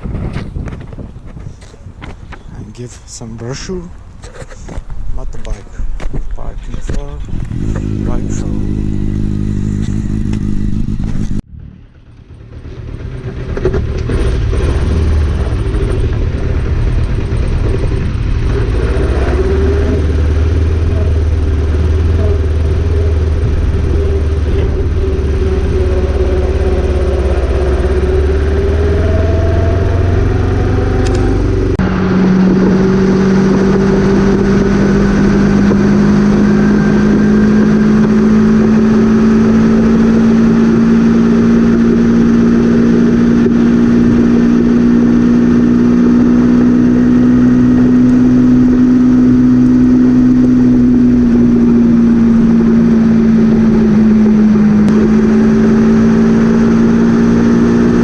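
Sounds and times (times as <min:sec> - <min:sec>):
vehicle engine running: 0:05.2 - 0:58.0.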